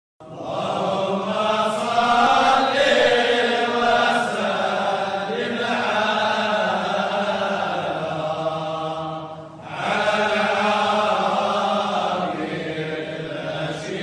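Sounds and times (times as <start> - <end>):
voices chanting: 0.2 - 14.0.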